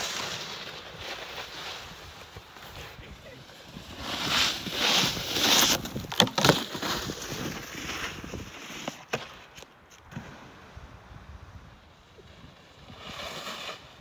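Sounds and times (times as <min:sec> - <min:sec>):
snowboard scraping over snow: 0:00.0 - 0:14.0.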